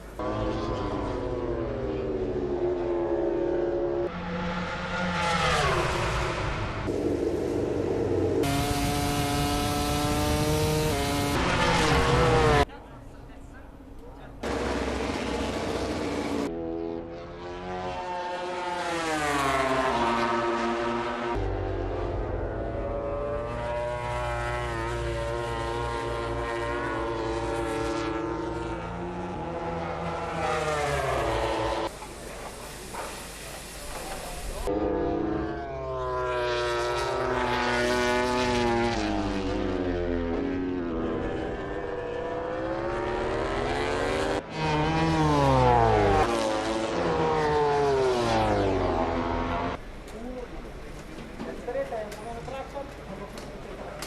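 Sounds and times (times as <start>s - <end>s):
racing motorcycle engine high revs: 0.2s - 12.7s, 14.4s - 31.9s, 34.6s - 49.8s.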